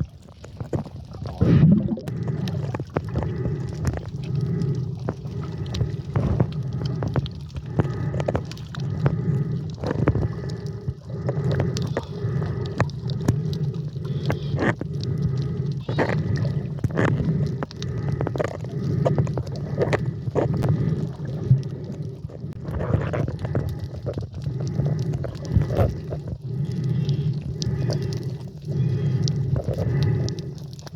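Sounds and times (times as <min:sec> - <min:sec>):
muffled underwater rumble: 0:00.0 - 0:30.9
water gurgling: 0:00.0 - 0:30.9.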